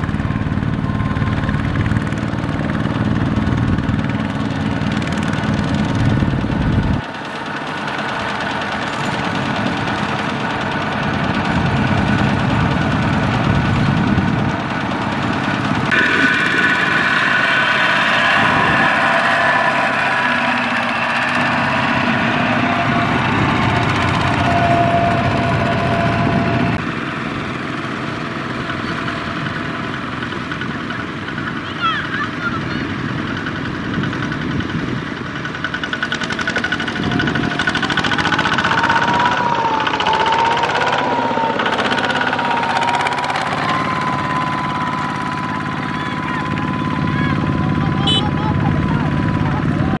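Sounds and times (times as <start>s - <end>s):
diesel engine chugging: 0.0s - 50.0s.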